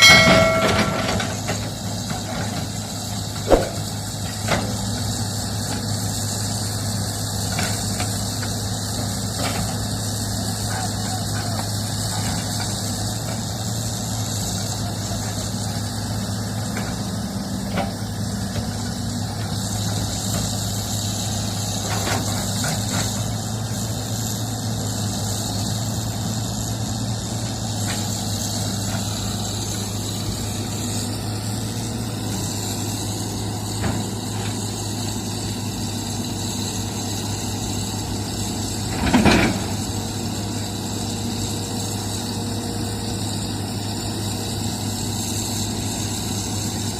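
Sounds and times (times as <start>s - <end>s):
heavy machinery diesel engine: 0.0s - 46.9s.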